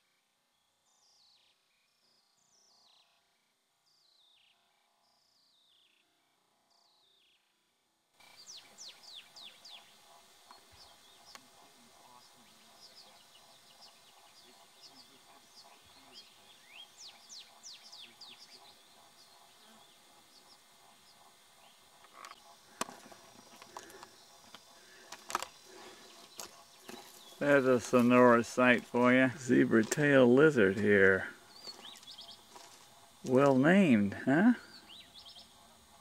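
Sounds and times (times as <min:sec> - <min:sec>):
faint birdsong chirps: 0:00.0 - 0:36.0
steady outdoor hiss: 0:00.0 - 0:36.0.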